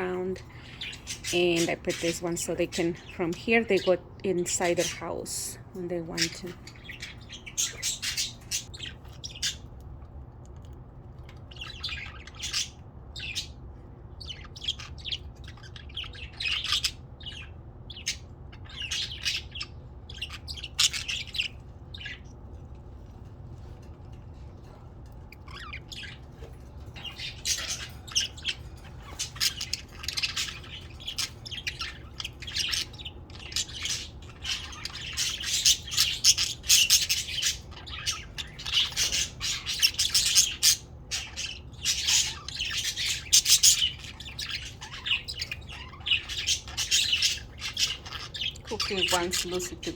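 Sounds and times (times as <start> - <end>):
budgerigars chirping and chattering: 0.0 - 10.1, 10.7 - 49.9
steady low hum: 0.0 - 49.9.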